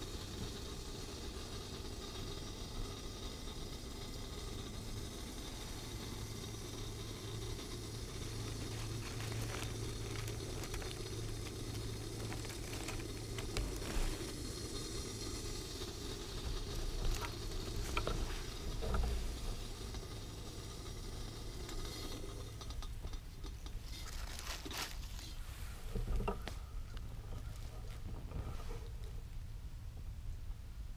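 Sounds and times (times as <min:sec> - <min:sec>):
camp stove burning with hiss: 0:00.0 - 0:30.9.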